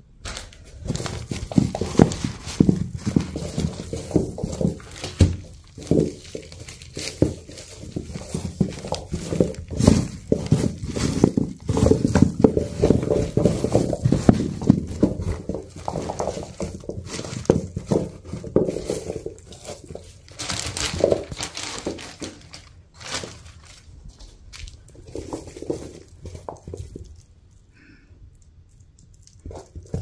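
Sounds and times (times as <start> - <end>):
potatoes knocking: 0.2 - 27.5, 28.9 - 30.0
rustling and scraping of soil: 0.2 - 30.0.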